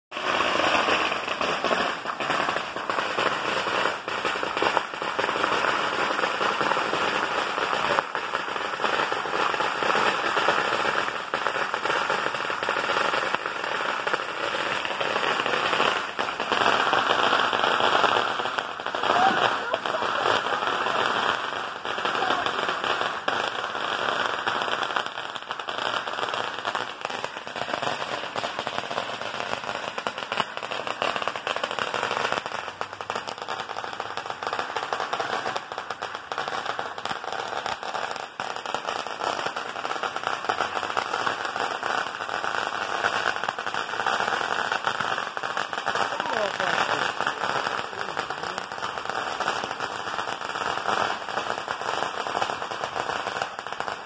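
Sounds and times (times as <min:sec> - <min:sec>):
firecracker strip crackling: 0:00.1 - 0:54.0.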